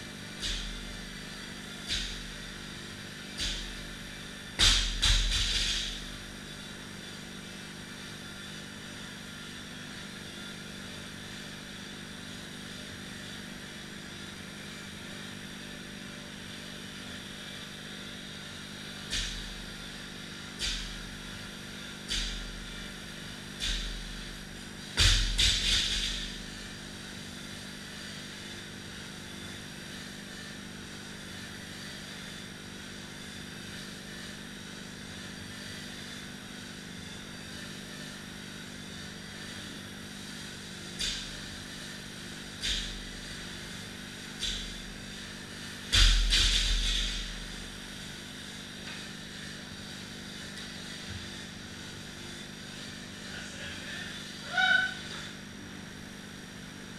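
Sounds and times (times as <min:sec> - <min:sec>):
rowing machine flywheels whirring: 0:00.0 - 0:56.9.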